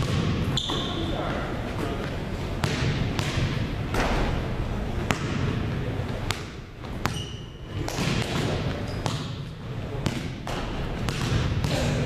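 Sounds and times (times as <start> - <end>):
basketballs bouncing on wooden floor: 0.0 - 1.4, 2.0 - 4.4, 5.0 - 12.0.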